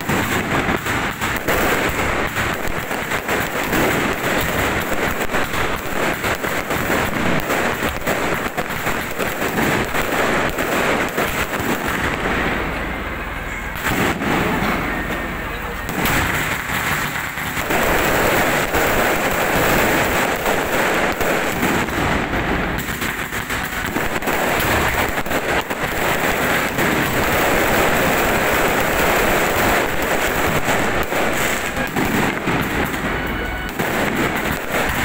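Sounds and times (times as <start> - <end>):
fireworks crackling: 0.0 - 35.0.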